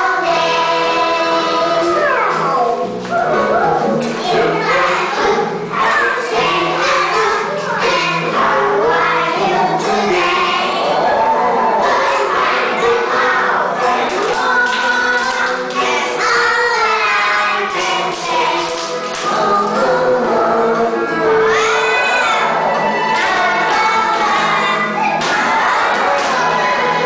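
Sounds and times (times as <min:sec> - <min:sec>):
children singing together: 0:00.0 - 0:27.0
musical accompaniment: 0:00.0 - 0:27.0.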